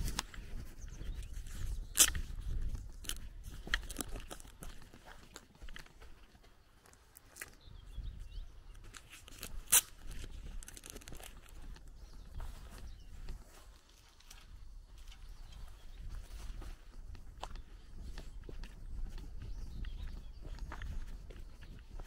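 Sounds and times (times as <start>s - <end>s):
footsteps on gravel: 0.0s - 14.2s, 15.0s - 22.0s.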